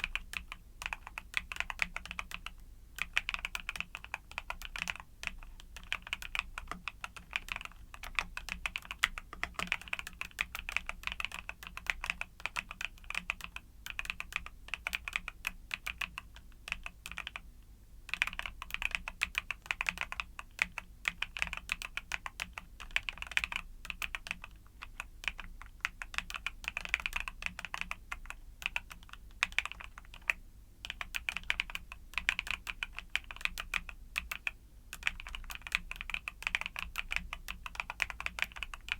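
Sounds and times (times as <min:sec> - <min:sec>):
mechanical keyboard typing: 0:00.0 - 0:17.5, 0:18.1 - 0:38.9.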